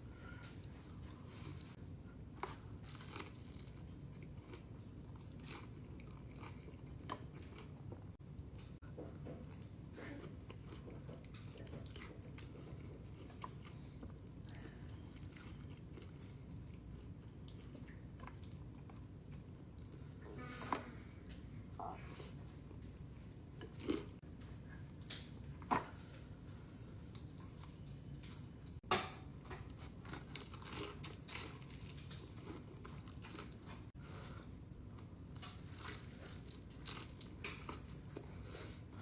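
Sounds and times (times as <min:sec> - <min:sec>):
low background hum: 0:00.0 - 0:39.0
person chewing and crunching food: 0:00.3 - 0:20.2, 0:21.2 - 0:39.0.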